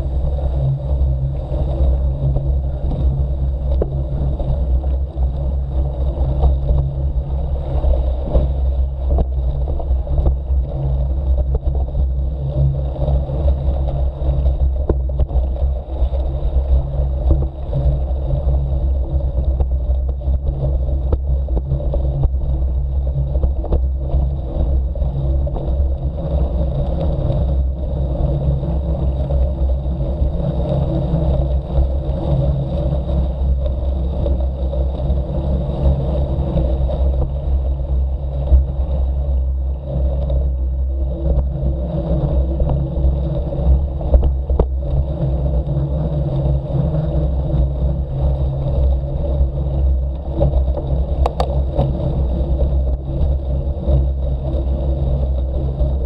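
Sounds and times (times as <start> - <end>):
bike tyre rumbling on dirt: 0.0 - 56.0.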